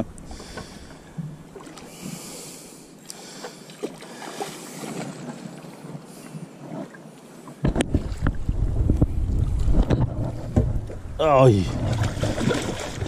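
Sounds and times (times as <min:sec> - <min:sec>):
light wind: 0:00.0 - 0:13.0
water noise: 0:00.0 - 0:13.0.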